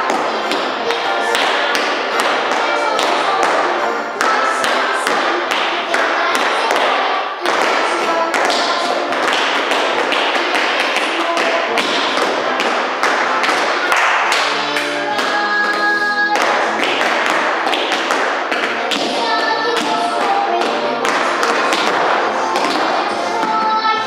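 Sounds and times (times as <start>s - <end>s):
recorded music: 0.0s - 24.0s
tap shoes clicking on floor: 4.2s - 23.7s.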